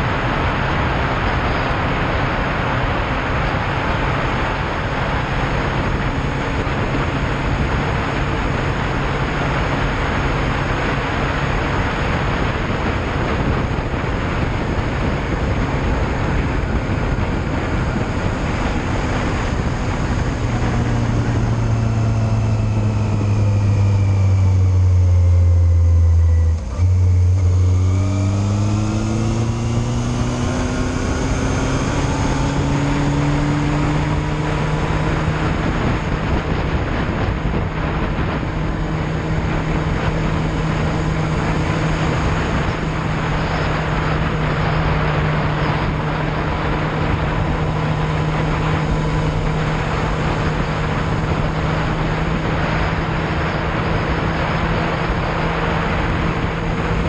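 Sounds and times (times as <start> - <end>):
motorcycle engine running: 0.0 - 57.0
road noise: 0.0 - 57.0
wind noise: 0.0 - 57.0.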